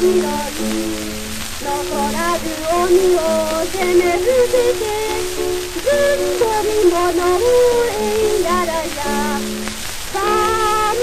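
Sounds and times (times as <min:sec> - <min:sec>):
woman singing: 0:00.0 - 0:01.0, 0:01.6 - 0:11.0
musical accompaniment: 0:00.0 - 0:11.0
record surface hiss and crackle: 0:00.0 - 0:11.0.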